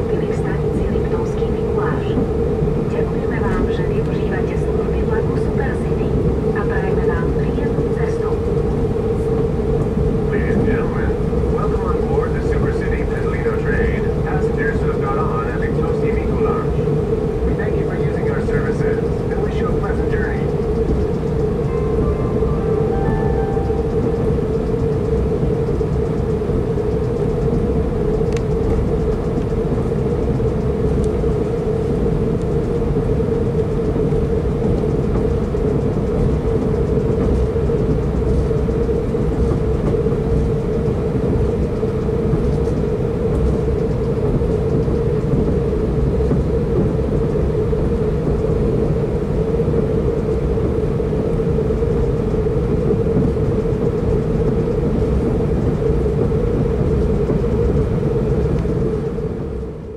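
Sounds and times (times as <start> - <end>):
constant train hum: 0.0 - 59.9
train wheels rumbling on track: 0.0 - 59.9.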